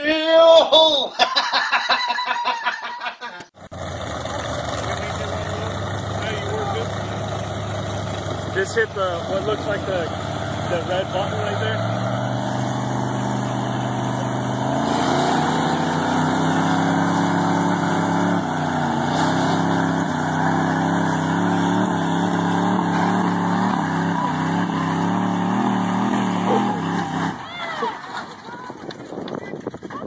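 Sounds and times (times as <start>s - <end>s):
truck engines revving: 3.6s - 29.8s.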